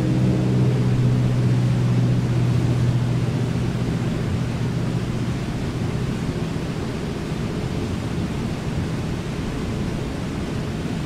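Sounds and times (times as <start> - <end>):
distant engine drone: 0.0 - 10.4.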